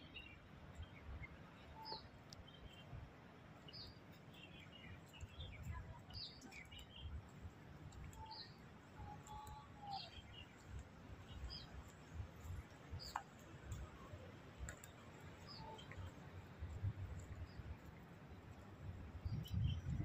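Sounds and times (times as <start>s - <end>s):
small birds chirping: 0.0s - 3.0s, 3.6s - 20.0s.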